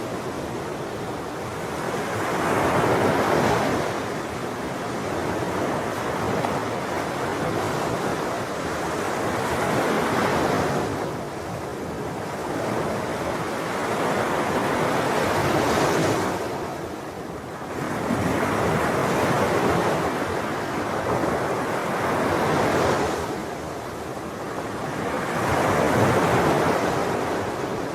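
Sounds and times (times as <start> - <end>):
sea waves breaking on shore: 0.0 - 27.9.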